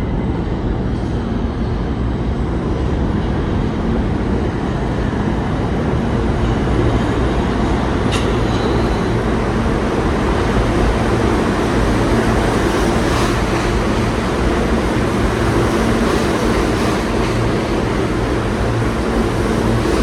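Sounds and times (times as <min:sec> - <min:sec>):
subway wheels rumbling on rails: 0:00.0 - 0:20.0.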